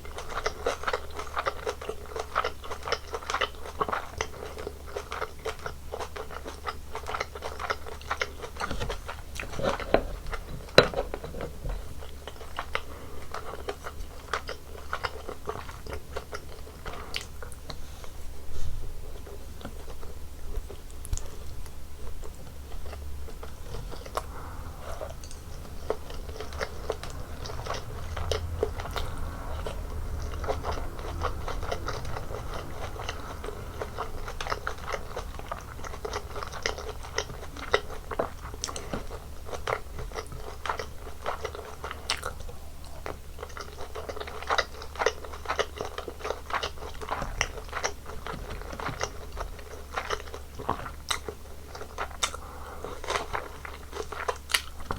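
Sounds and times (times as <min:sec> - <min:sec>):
chewing with crunches: 0:00.0 - 0:54.9
steady low hum: 0:06.2 - 0:54.7.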